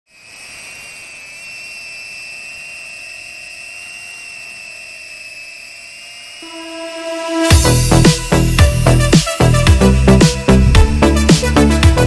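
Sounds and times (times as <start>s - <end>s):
drone motors whining: 0.1s - 11.8s.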